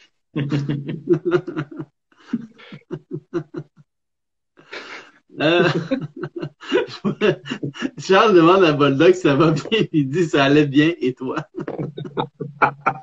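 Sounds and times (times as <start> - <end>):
man laughing: 0.4 - 3.8, 4.7 - 13.0.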